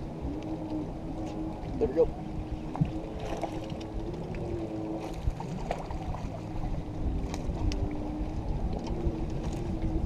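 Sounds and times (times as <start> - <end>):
boat motor hum: 0.0 - 10.0
wind and waves rumble: 0.0 - 10.0.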